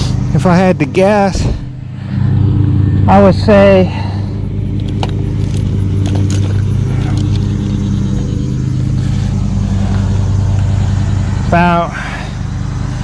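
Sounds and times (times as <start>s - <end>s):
steady motor hum: 0.0s - 13.0s.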